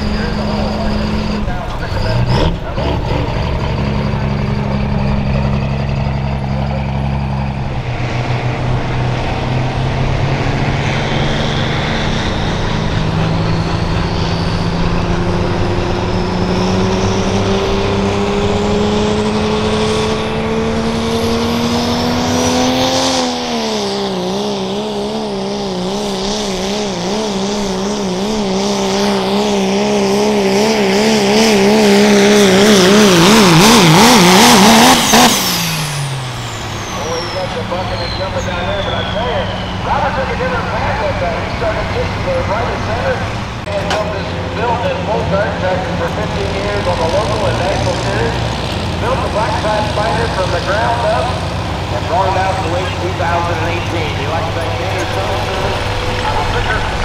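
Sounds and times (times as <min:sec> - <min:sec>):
diesel truck engine at full throttle: 0:00.0 - 0:57.0.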